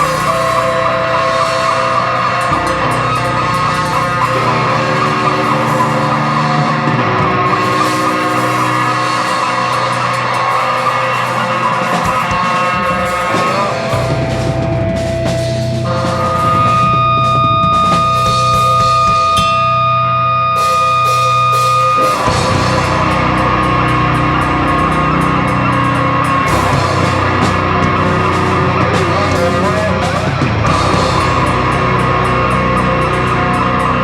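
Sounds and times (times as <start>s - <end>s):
live rock band with electric guitars: 0.0s - 34.0s.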